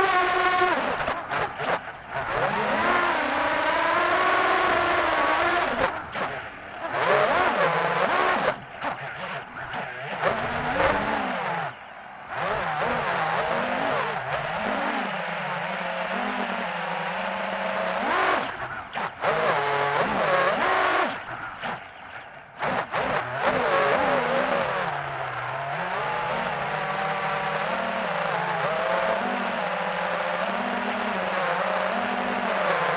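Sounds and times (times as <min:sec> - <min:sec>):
drone propellers whining: 0:00.0 - 0:32.9.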